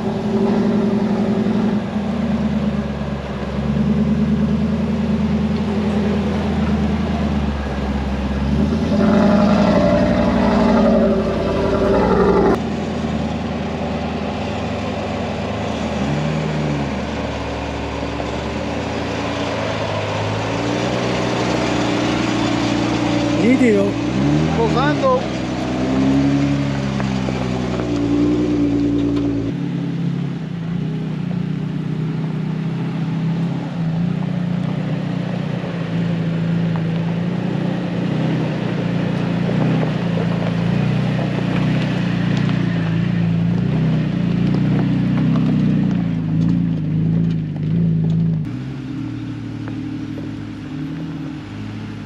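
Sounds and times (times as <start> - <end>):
off-road engines running: 0.0 - 52.0.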